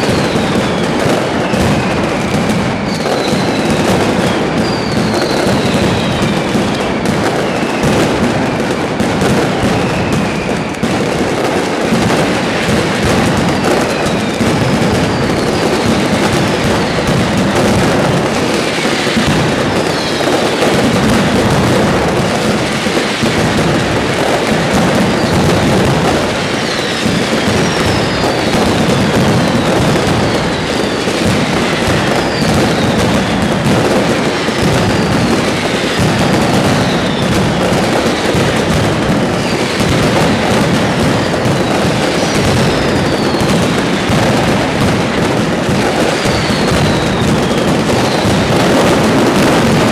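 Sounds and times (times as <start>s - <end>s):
firecrackers rattling: 0.0s - 49.9s
whistling fireworks: 0.0s - 49.9s.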